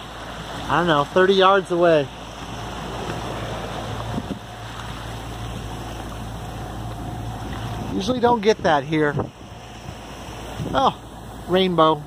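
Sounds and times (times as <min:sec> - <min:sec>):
boat engine humming: 0:00.0 - 0:12.0
water rushing: 0:00.0 - 0:12.0.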